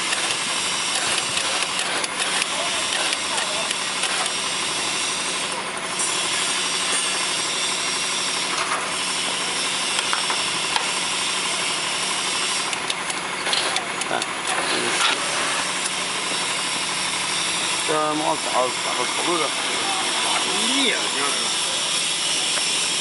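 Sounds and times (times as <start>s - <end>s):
machine humming and hissing: 0.0s - 23.0s.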